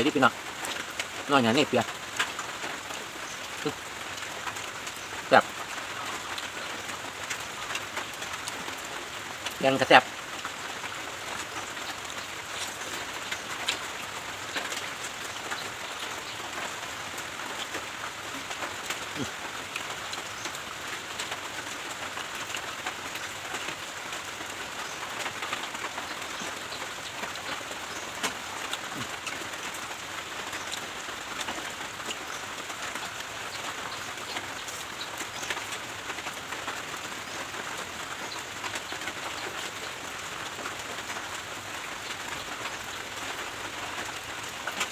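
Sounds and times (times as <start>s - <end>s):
rain falling: 0.0s - 44.9s
raindrop ticks: 0.0s - 44.9s.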